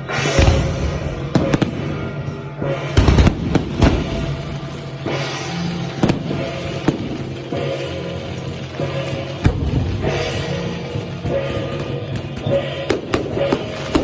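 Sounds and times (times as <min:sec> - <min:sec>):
fireworks bangs and crackles: 0:00.0 - 0:14.0
loud music: 0:00.0 - 0:14.0.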